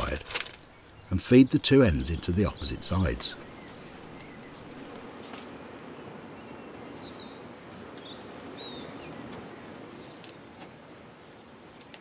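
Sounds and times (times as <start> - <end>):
steady low background noise: 0.0 - 12.0.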